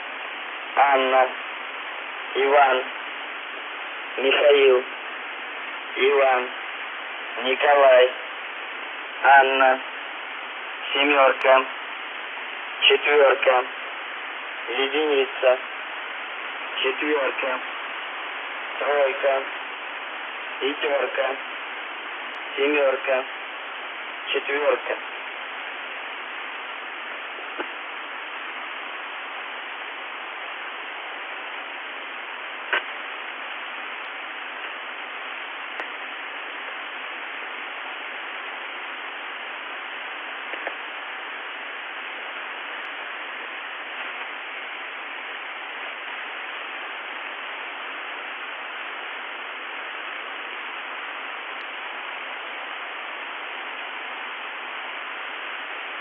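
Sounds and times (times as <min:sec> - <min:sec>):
radio crackles: 0:00.0 - 0:56.0
radio static hiss: 0:00.0 - 0:56.0.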